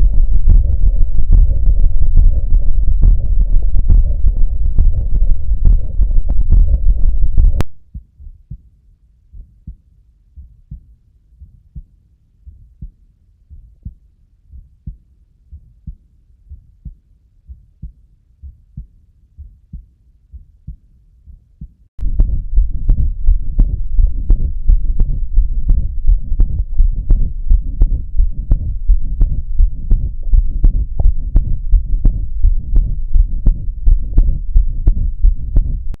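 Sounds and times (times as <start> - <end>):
low rumbling heart murmur: 0.0 - 8.7, 12.5 - 36.0
faint heartbeats: 0.0 - 36.0.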